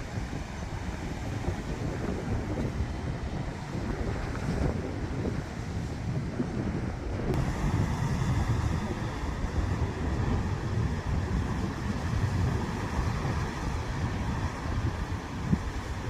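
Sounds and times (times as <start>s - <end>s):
surf rumbling against cliff: 0.0s - 16.0s
wind buffeting microphone: 0.0s - 16.0s.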